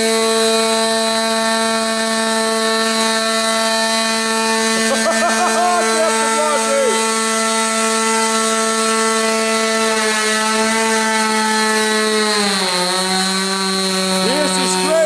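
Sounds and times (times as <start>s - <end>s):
model engine buzzing: 0.0s - 15.0s.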